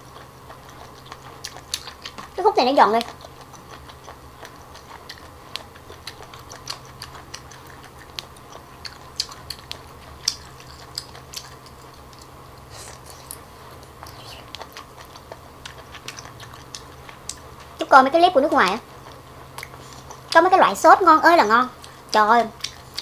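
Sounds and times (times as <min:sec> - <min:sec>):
octopus being chewed: 0:00.0 - 0:17.8, 0:18.4 - 0:20.5, 0:21.7 - 0:23.0.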